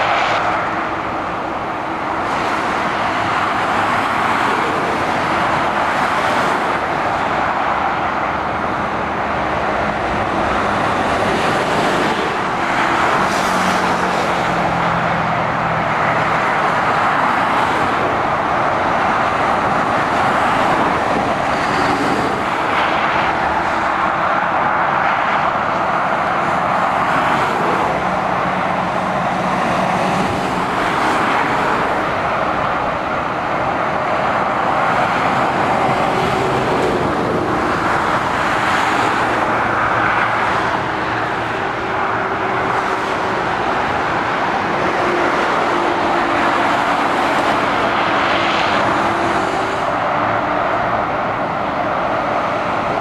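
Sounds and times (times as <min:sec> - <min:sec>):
heavy vehicle engine: 0:00.0 - 0:53.0
motorway traffic: 0:00.0 - 0:53.0.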